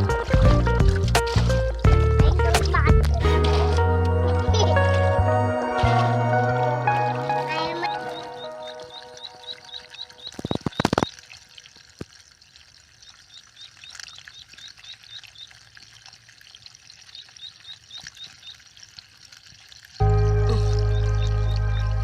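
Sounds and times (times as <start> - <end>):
water splashing and sloshing: 0.0 - 20.2
water trickling: 0.0 - 22.0.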